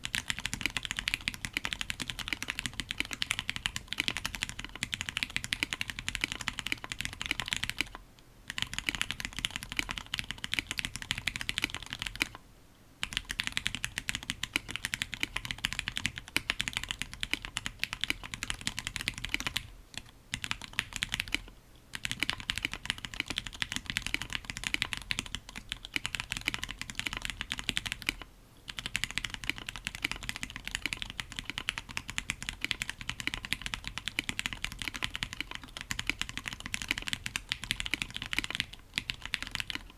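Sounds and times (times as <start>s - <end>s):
fast mechanical keyboard typing: 0.0s - 12.4s, 13.0s - 39.9s.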